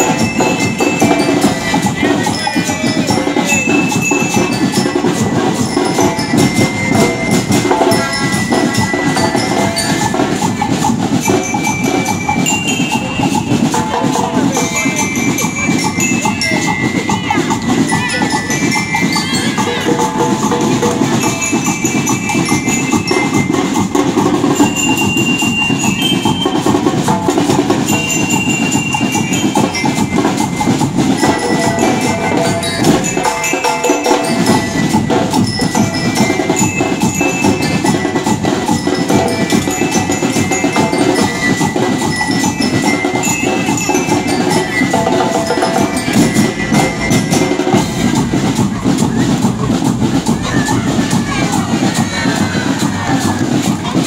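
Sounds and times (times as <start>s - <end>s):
bell lyres melody: 0.0s - 54.0s
steady drumming: 0.0s - 54.0s.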